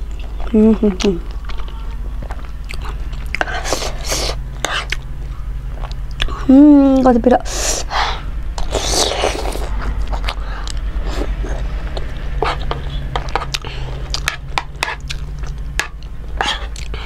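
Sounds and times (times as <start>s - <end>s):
person chewing food: 0.0s - 6.5s, 8.6s - 17.0s
low steady hum: 0.0s - 17.0s.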